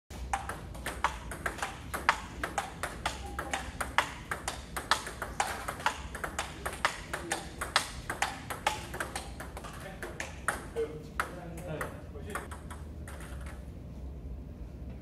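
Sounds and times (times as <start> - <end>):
ping-pong ball clicking: 0.3 - 13.6.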